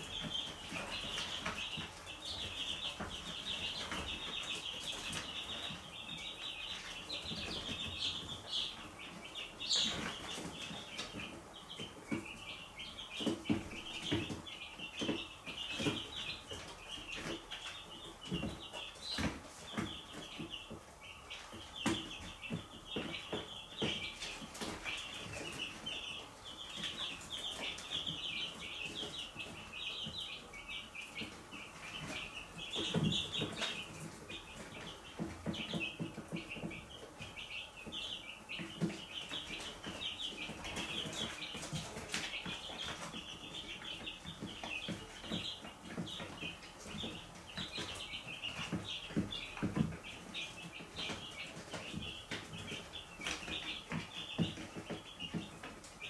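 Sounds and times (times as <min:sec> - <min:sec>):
chicks pecking plastic feeder: 0:00.0 - 0:56.0
chicks peeping: 0:00.0 - 0:56.0.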